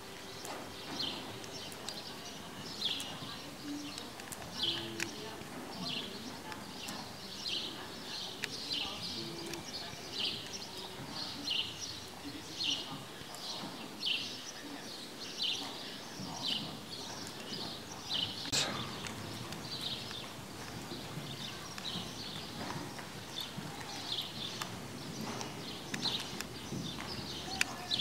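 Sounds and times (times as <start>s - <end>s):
hoofbeats on sand: 0.0s - 28.0s.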